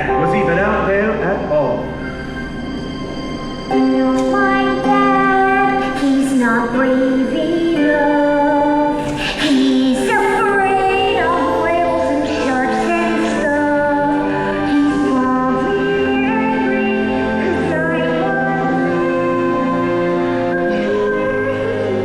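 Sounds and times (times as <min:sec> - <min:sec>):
recorded musical backing: 0:00.0 - 0:22.0.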